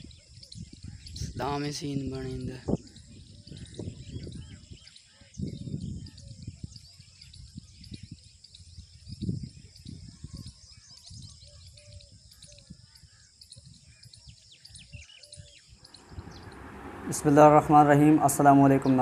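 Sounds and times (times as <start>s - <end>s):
high insect hum: 0.0s - 19.0s
small birds chirping: 0.0s - 19.0s
wind rumble on microphone: 0.0s - 19.0s.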